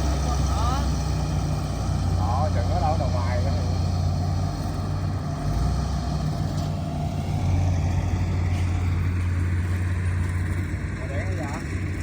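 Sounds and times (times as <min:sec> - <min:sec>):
diesel engine deep drone: 0:00.0 - 0:12.0.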